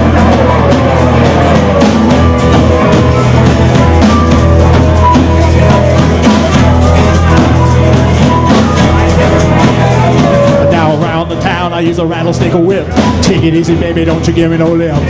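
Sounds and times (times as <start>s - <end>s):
bass guitar: 0.0s - 15.0s
electric guitar: 0.0s - 15.0s
steady drum beat: 0.0s - 15.0s.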